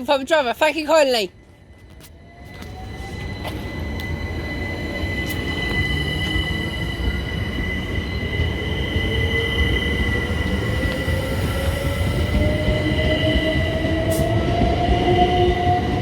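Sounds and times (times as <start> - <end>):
train rumble: 0.0 - 16.0
electric train whining: 0.1 - 16.0.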